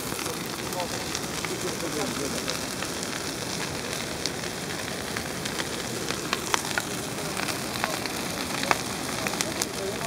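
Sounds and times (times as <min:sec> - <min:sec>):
bonfire crackling and popping: 0:00.0 - 0:10.0.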